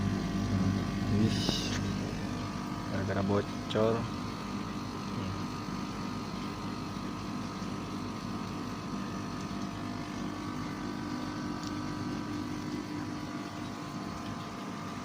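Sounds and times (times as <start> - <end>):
motor running steadily: 0.0 - 15.0.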